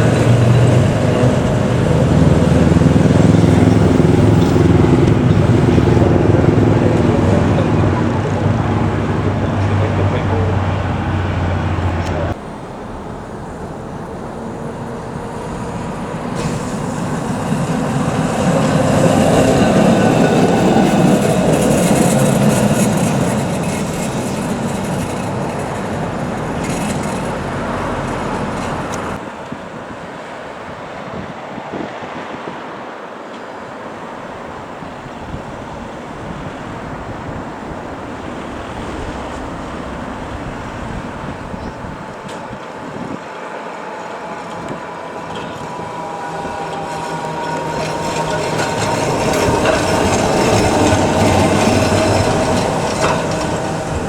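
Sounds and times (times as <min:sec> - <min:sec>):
tram rolling along track: 0:00.0 - 0:54.0.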